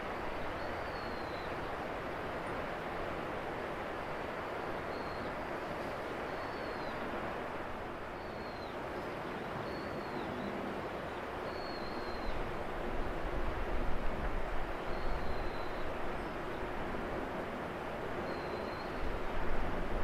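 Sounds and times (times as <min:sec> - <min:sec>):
wind and sea rushing: 0:00.0 - 0:20.0.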